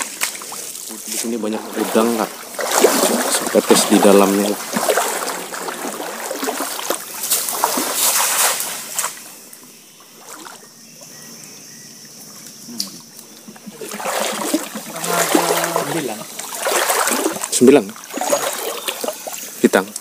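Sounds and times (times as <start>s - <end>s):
shallow water splashing: 0.0s - 11.2s, 12.9s - 20.0s.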